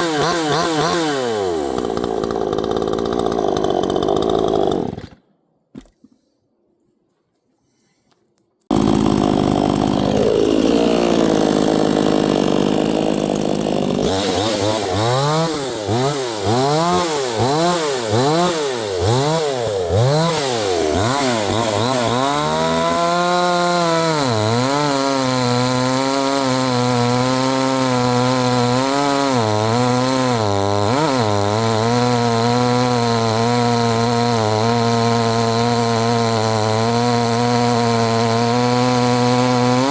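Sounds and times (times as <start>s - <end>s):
chainsaw cutting wood: 0.0s - 5.9s, 8.7s - 39.9s.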